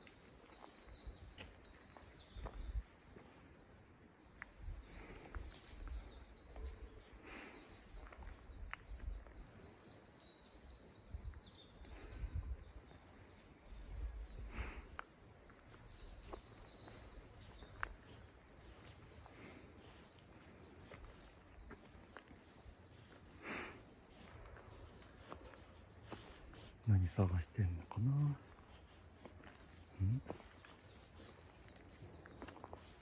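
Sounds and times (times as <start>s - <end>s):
faint bird chirps: 0.0s - 33.0s.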